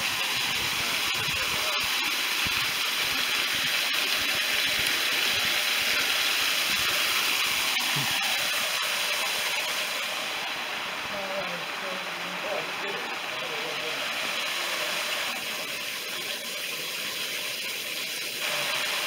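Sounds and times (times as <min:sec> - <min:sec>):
small waterfall splashing: 0:00.0 - 0:19.0.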